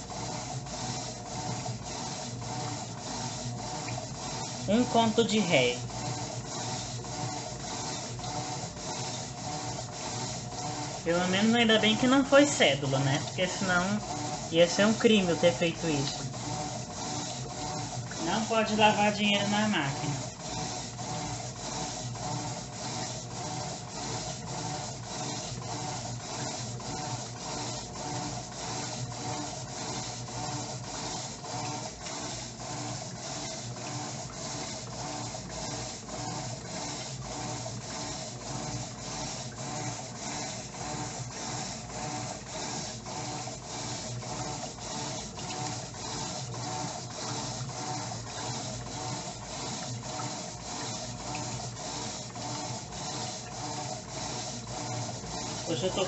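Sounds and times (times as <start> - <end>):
washing machine churning water: 0.0 - 56.0.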